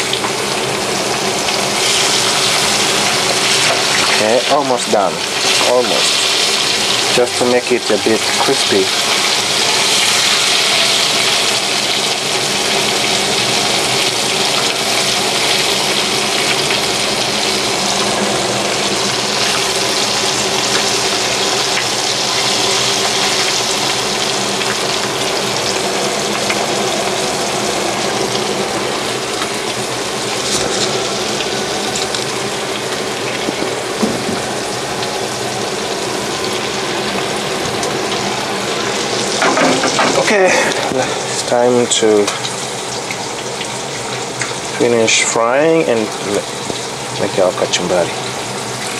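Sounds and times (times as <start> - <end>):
fish sizzling in hot oil: 0.0 - 48.9.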